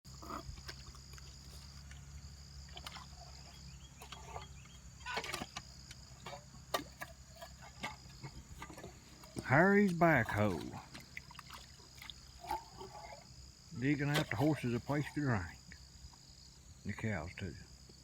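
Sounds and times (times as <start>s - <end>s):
bucket scraping dirt and rock: 0.1s - 16.3s
low steady hum: 0.1s - 18.0s.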